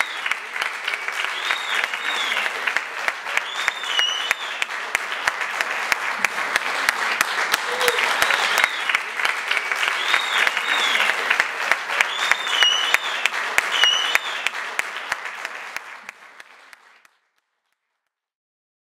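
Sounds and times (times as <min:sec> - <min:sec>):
audience cheering: 0:00.0 - 0:16.3
audience applauding: 0:00.0 - 0:17.4.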